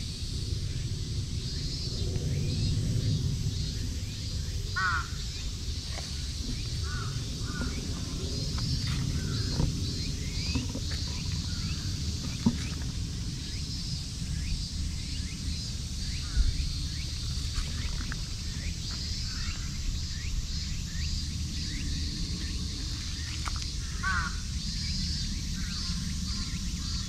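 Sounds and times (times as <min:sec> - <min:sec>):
steady low rumble: 0:00.0 - 0:27.0
small birds chirping: 0:03.6 - 0:27.0.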